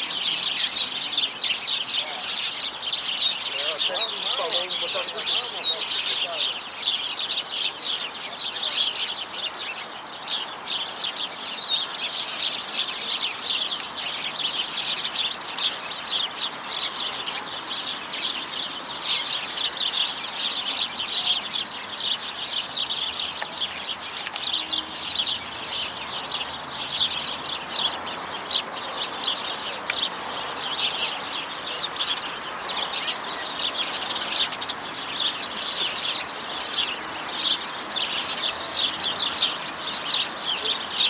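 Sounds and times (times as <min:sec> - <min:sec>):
city noise hum: 0:00.0 - 0:41.0
small birds chirping: 0:00.0 - 0:41.0.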